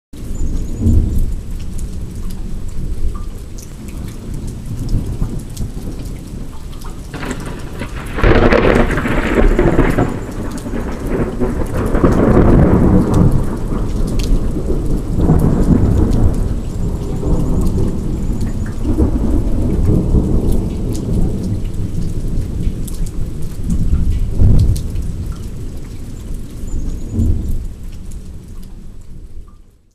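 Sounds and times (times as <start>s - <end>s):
steady rain: 0.2s - 29.9s
thunder crack and rumble: 0.8s - 2.1s, 4.1s - 27.9s.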